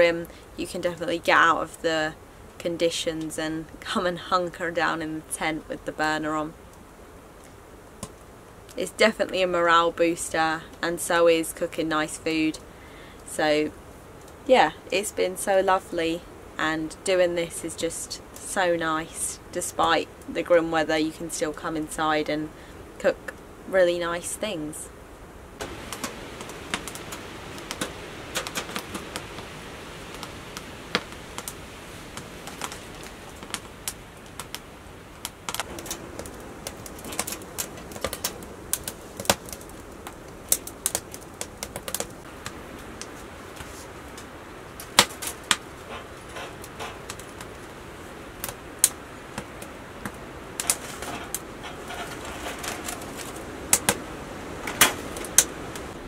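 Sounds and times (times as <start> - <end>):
firewood crackling and popping: 0.0 - 9.8, 10.4 - 15.1, 24.4 - 56.0
low stove hiss: 0.0 - 56.0.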